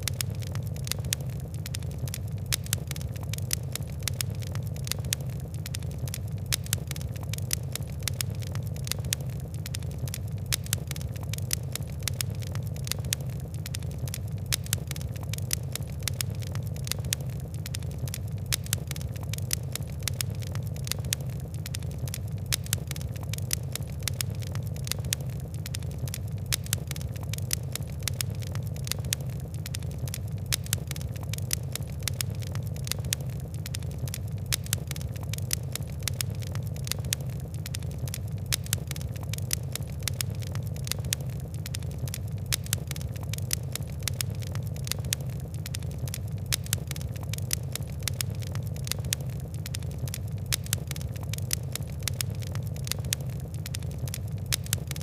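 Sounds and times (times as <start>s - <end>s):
fire crackling and popping: 0.0s - 55.0s
low rumble of fire: 0.0s - 55.0s.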